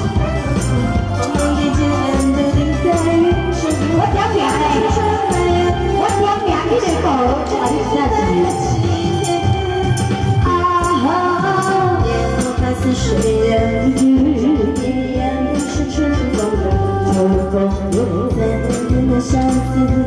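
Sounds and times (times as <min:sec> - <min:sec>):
backing music with heavy bass: 0:00.0 - 0:20.0
woman singing into microphone: 0:01.1 - 0:20.0.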